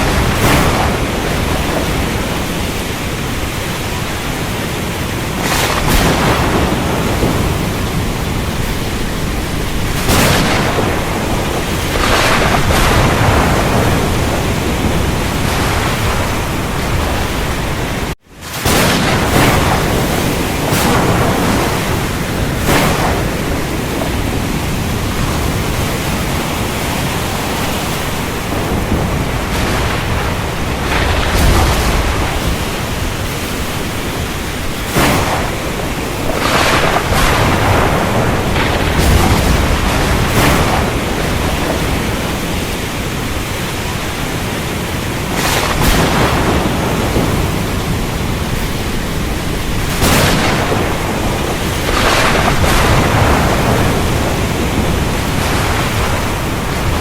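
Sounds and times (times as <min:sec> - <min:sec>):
heavy rain: 0:00.0 - 0:57.0
low thunder rolls: 0:00.0 - 0:57.0
sharp thunder cracks: 0:00.0 - 0:57.0
wind: 0:00.0 - 0:57.0.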